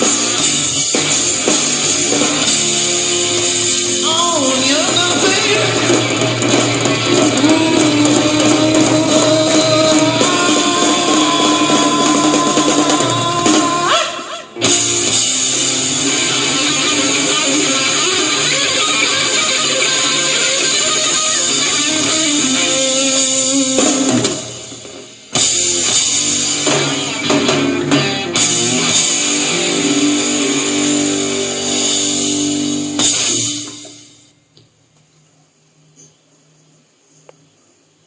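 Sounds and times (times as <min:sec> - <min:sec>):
drum kit: 0:00.0 - 0:34.4
electric guitar: 0:00.0 - 0:34.4.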